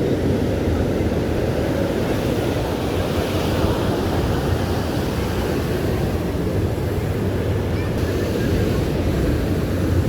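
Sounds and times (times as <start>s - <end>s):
ocean surf on a beach: 0.0s - 10.0s.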